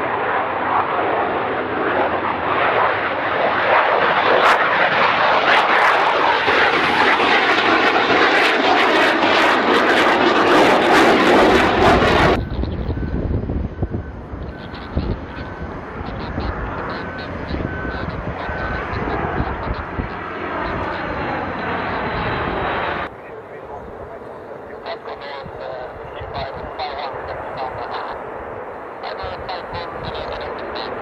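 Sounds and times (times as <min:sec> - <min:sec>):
jet engine roaring with crackles: 0:00.0 - 0:31.0
low jet rumble: 0:00.0 - 0:31.0.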